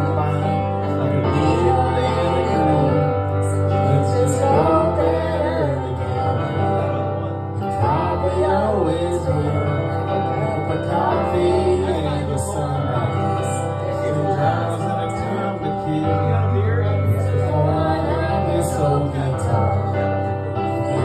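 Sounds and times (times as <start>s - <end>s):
man and woman singing karaoke: 0.0s - 21.0s.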